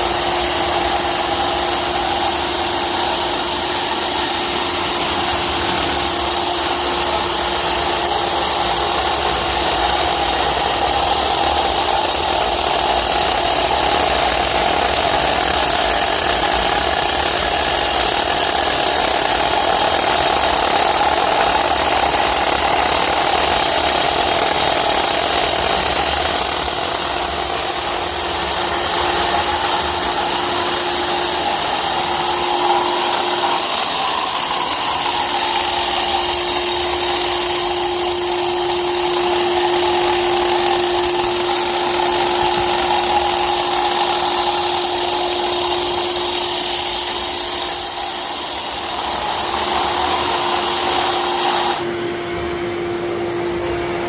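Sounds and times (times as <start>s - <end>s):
machine running loudly: 0.0s - 54.0s.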